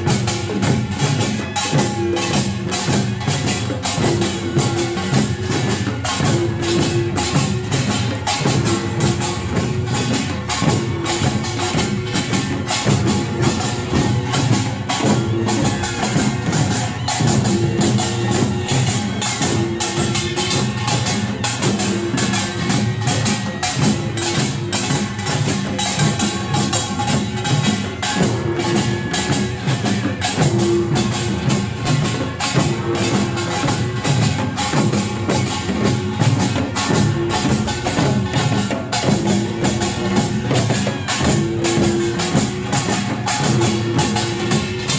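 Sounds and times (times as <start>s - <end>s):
barrel drums: 0.0s - 44.9s
hourglass drums: 0.0s - 44.9s.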